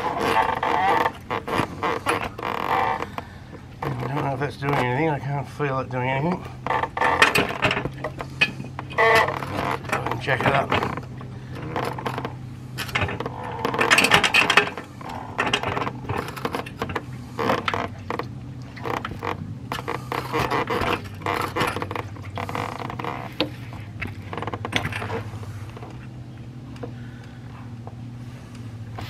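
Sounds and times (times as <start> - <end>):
floor jack metallic clicks and creaks: 0.0 - 29.0
steady low hum: 0.0 - 29.0.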